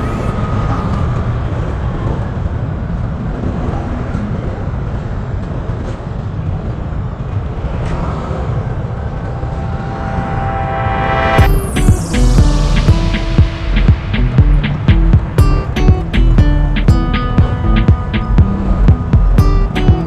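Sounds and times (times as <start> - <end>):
vehicle road and engine rumble: 0.0 - 10.2, 11.2 - 20.0.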